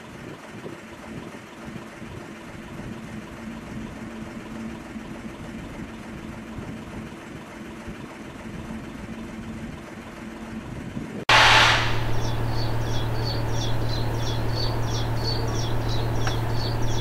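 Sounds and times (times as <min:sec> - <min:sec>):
diesel locomotive idling: 0:02.5 - 0:17.0.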